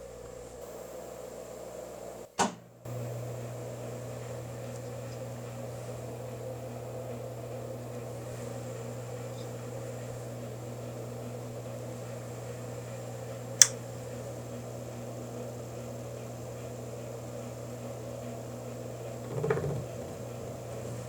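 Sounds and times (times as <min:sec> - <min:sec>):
motor humming: 0:02.9 - 0:21.0.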